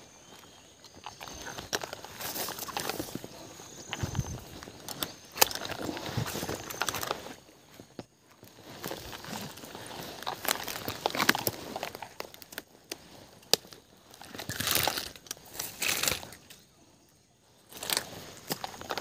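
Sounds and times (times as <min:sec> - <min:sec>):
rustling and crackling: 0:00.0 - 0:16.7, 0:17.7 - 0:19.0.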